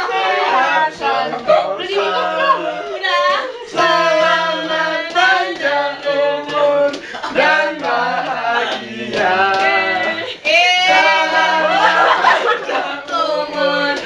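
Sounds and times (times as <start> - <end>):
group singing unaccompanied: 0.0 - 14.0.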